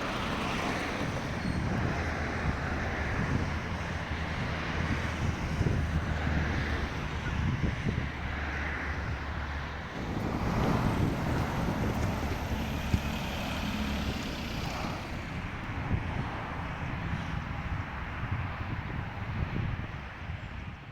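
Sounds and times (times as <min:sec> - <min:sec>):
low vehicle rumble: 0:00.0 - 0:20.8
wind noise on microphone: 0:00.0 - 0:20.9.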